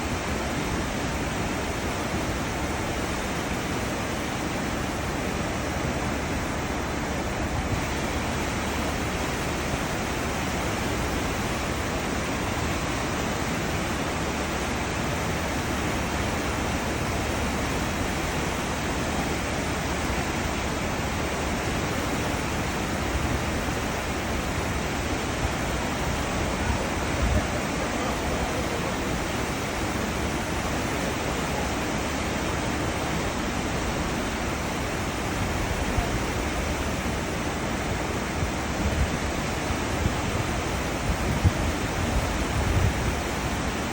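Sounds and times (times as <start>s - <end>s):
churning water rushing: 0.0s - 43.9s.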